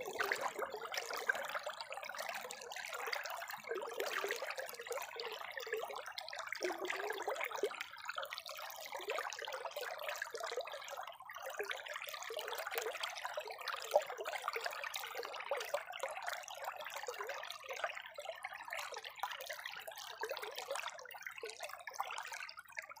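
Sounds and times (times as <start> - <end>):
water trickling and bubbling: 0.0 - 23.0.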